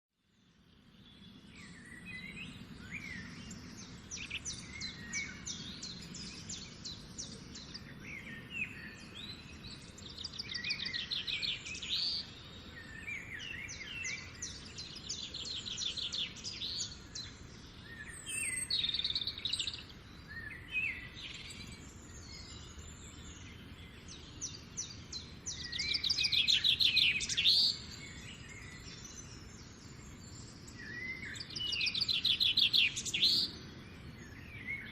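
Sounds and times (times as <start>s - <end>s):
songbirds trilling and chirping: 0.2s - 34.9s.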